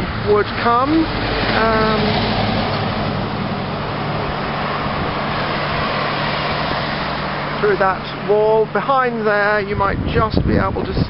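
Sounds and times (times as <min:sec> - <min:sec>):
vehicle passing on road: 0:00.0 - 0:10.1.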